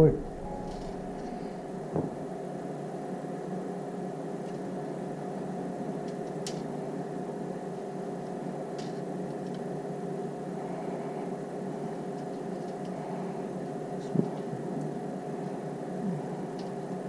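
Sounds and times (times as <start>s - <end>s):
cooling fans humming: 0.0s - 17.0s.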